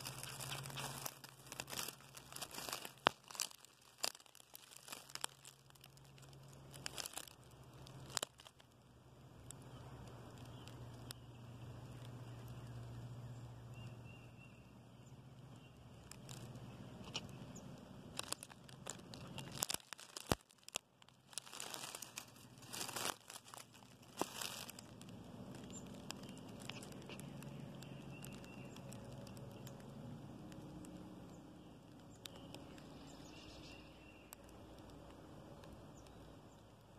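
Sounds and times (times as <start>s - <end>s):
crinkly clicks: 0.0s - 12.7s, 15.9s - 36.9s
dry leaves rustling and crackling: 0.0s - 14.2s, 15.0s - 36.9s
low steady hum: 0.0s - 36.9s.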